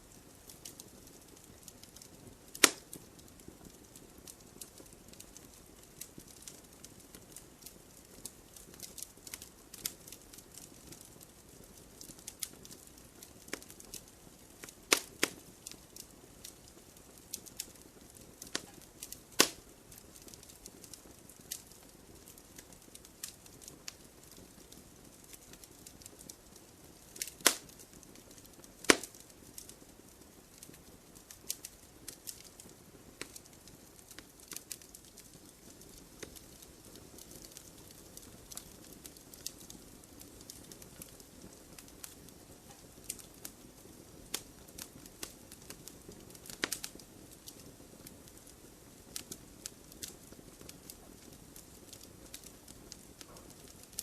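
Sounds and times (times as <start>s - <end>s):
burning wood popping: 0.0s - 54.0s
campfire crackling: 0.0s - 54.0s.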